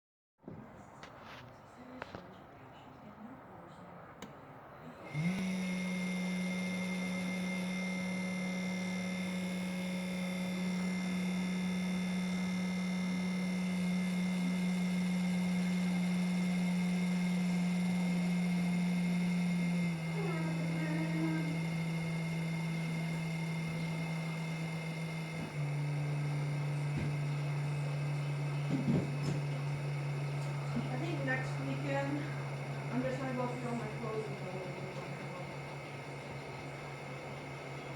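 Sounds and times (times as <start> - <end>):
fan humming with high whine: 0.5 - 37.9.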